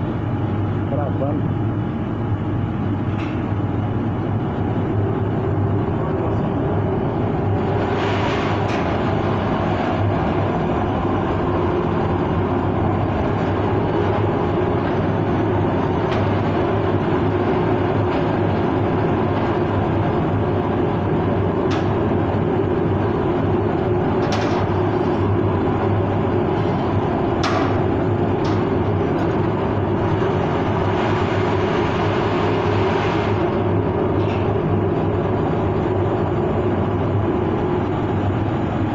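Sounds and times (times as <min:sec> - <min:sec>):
cremation furnace burner roaring: 0:00.0 - 0:38.9.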